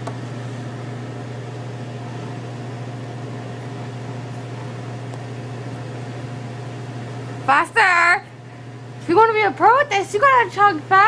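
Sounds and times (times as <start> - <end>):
fan hum with hiss: 0.0 - 11.0.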